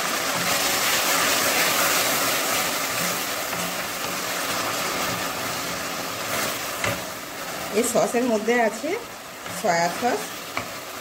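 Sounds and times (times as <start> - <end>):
sauce sizzling in a wok: 0.0 - 11.0
spatula stirring: 0.0 - 11.0.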